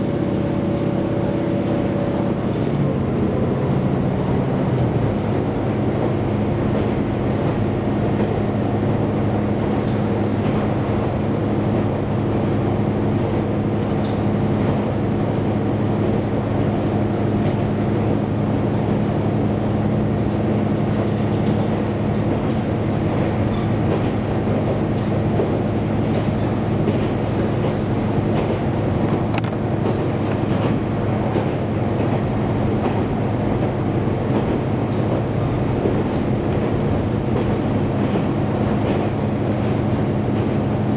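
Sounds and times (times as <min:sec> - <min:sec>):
rail and wheel noise: 0:00.0 - 0:40.9
railcar engine drone: 0:00.0 - 0:40.9.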